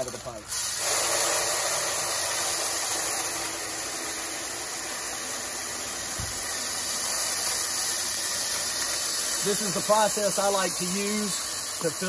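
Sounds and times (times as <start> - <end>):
glass grains pouring hiss: 0.0 - 12.0.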